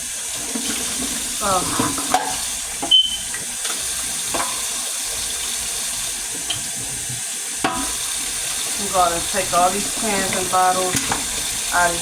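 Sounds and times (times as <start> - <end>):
sink tap running: 0.0 - 12.0.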